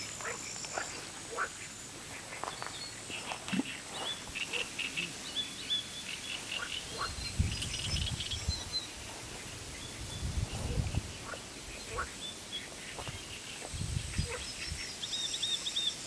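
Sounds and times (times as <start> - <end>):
small birds chirping: 0.0 - 16.0
steady outdoor background: 0.0 - 16.0.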